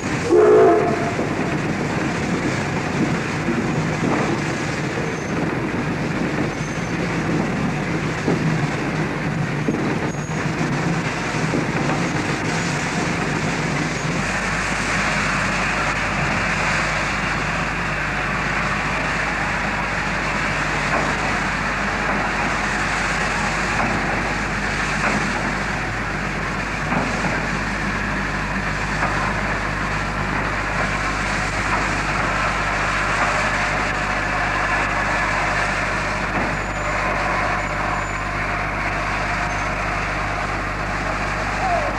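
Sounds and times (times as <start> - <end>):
steam train running: 0.0 - 41.9.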